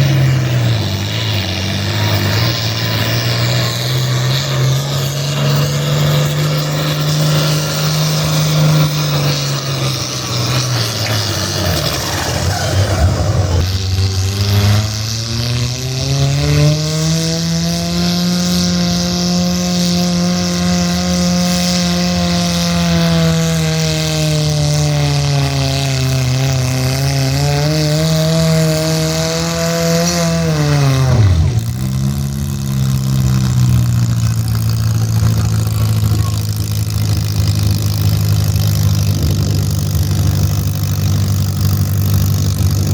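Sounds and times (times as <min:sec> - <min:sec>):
engine revving under load: 0:00.0 - 0:42.9.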